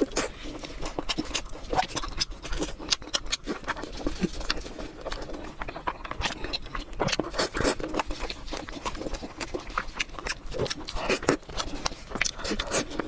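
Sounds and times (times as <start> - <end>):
chewing mouth noises: 0.0 - 13.0.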